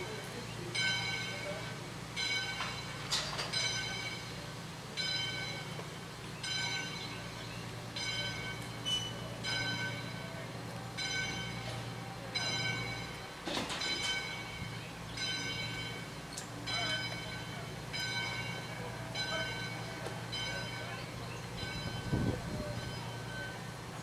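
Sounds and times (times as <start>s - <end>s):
locomotive bell ringing: 0.0s - 24.0s
moving train running noise: 0.0s - 24.0s.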